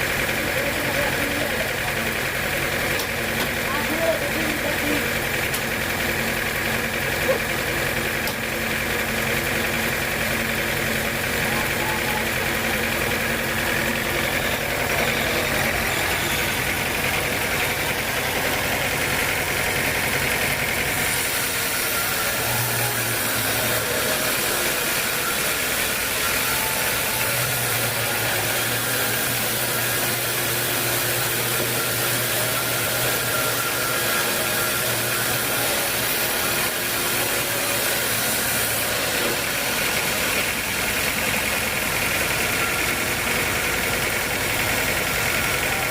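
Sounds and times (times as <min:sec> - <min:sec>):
sawmill machinery droning: 0:00.0 - 0:45.9.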